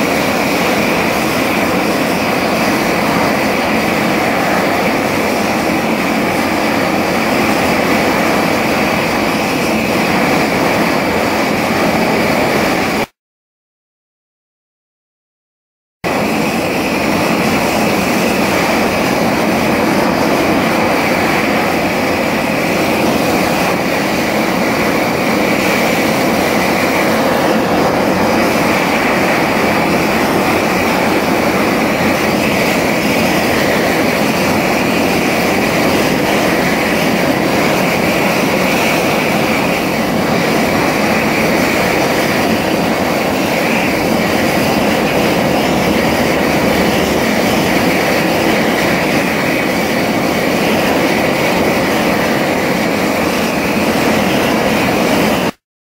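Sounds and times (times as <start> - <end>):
gas torch flame rushing: 0.0 - 13.2, 16.0 - 55.6.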